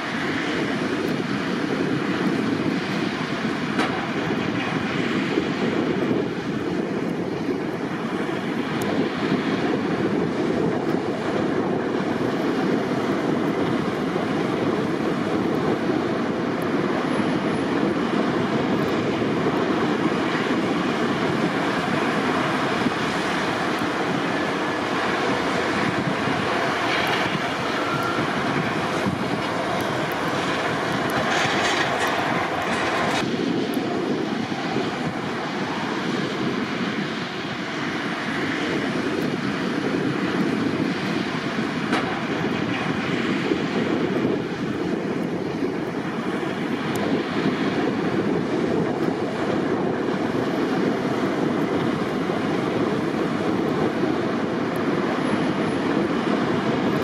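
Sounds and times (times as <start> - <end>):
snow-clearing machine engine: 0.0 - 57.0.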